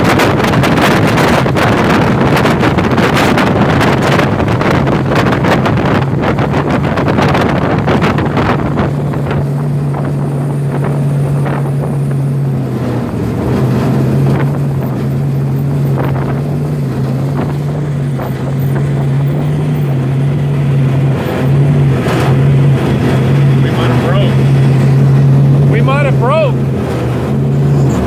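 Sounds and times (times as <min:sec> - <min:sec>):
car engine droning: 0:00.0 - 0:28.0
wind on microphone: 0:00.0 - 0:28.0.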